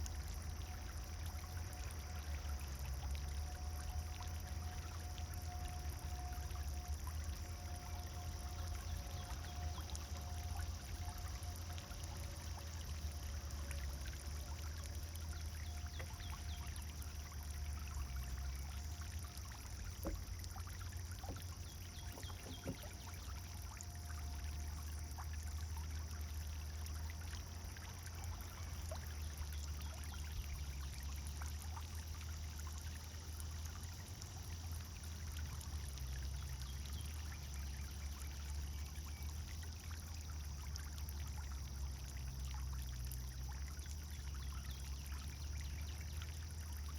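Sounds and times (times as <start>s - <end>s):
fountain water splashing: 0.0s - 46.9s.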